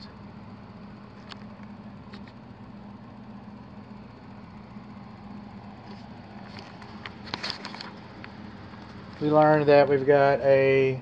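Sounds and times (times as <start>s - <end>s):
ventilation fan humming: 0.0s - 11.0s.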